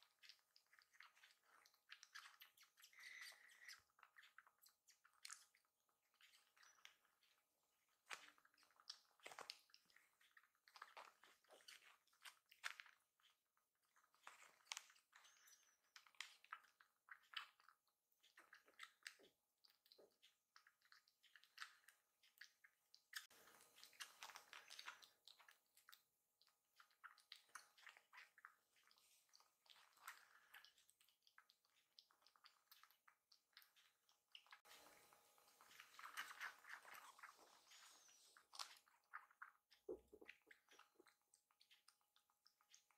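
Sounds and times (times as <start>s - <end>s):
kitten suckling from bottle: 0.0s - 42.9s.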